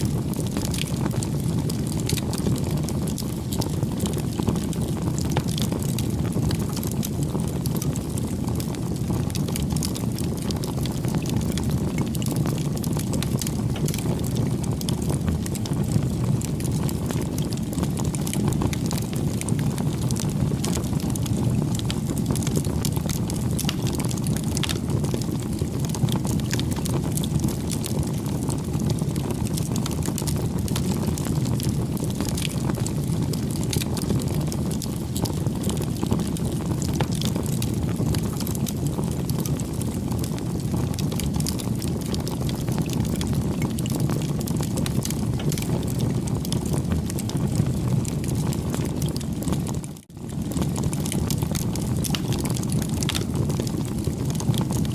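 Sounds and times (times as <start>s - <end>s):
burning wood crackling: 0.0s - 54.9s
campfire flames rushing: 0.0s - 54.9s.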